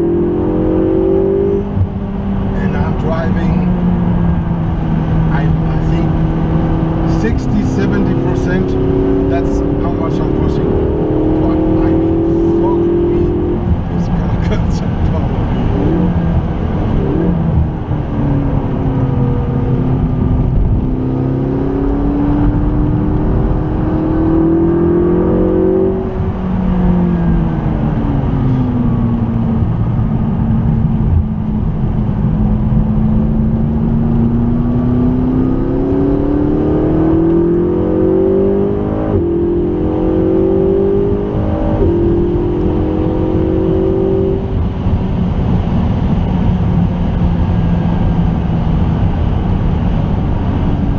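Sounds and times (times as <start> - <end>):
car engine accelerating: 0.0 - 50.9
tyre and road noise: 0.0 - 50.9.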